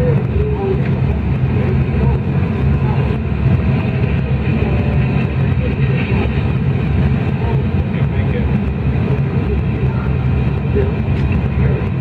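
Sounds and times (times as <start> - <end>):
low hum: 0.0 - 12.0
train running rumble: 0.0 - 12.0.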